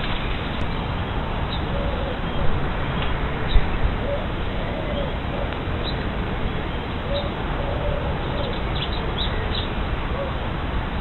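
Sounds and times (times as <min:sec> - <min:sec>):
steady microphone hiss: 0:00.0 - 0:11.0
faint bird calls: 0:01.5 - 0:10.4.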